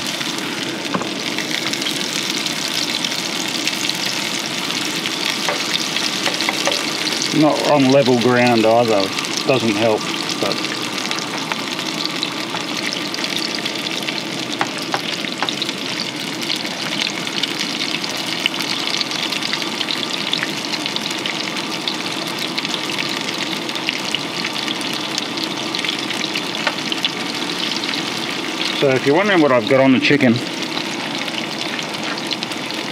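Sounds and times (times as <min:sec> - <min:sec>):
chicken sizzling in oil: 0:00.0 - 0:32.9.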